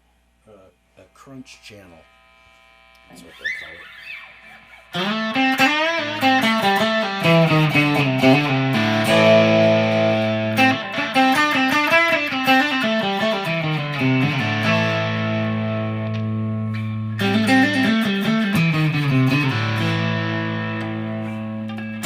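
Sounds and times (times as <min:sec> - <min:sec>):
lightly distorted electric guitar: 0:00.0 - 0:22.0.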